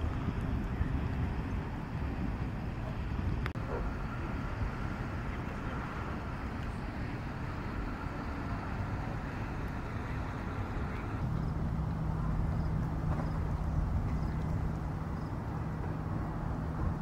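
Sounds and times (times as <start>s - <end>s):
distant engines rumbling: 0.0s - 17.0s
faint steady hum: 0.0s - 17.0s.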